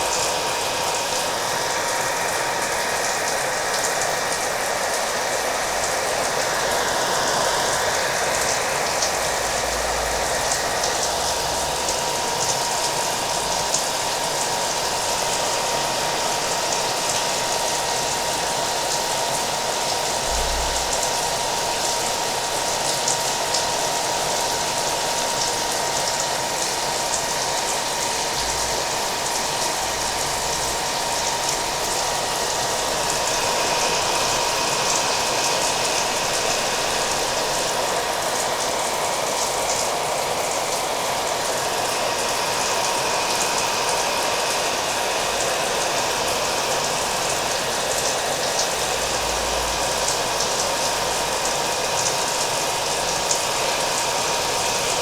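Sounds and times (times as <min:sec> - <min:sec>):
hair dryer whining: 0:00.0 - 0:55.0
steady rain: 0:00.0 - 0:55.0.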